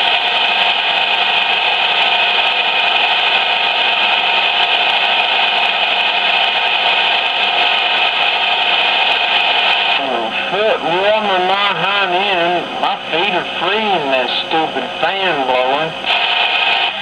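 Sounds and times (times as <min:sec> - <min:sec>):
radio static rushing noise: 0:00.0 - 0:17.0.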